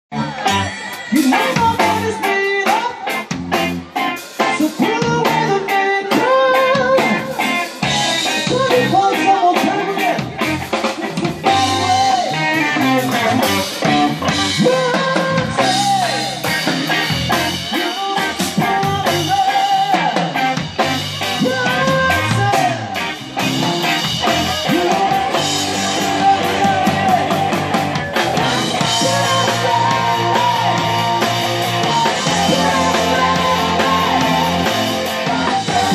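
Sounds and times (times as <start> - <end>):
drum kit beat: 0.1 - 35.9
electric guitars: 0.1 - 35.9
person singing: 0.1 - 35.9.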